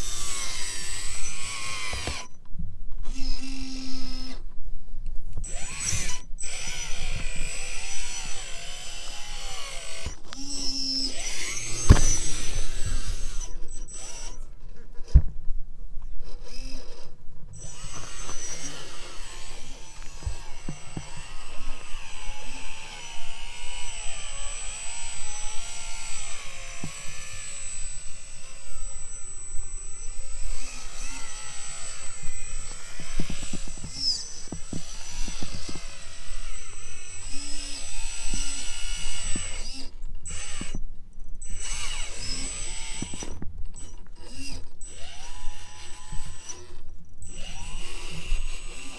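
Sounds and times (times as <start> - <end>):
electric motor and gearbox whining: 0.0 - 4.5, 5.3 - 15.2, 16.2 - 48.9.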